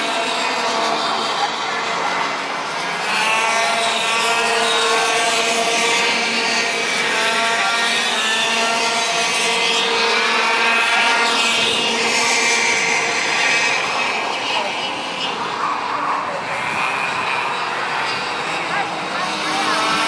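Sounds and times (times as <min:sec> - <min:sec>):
racing kart engines whining: 0:00.0 - 0:20.0.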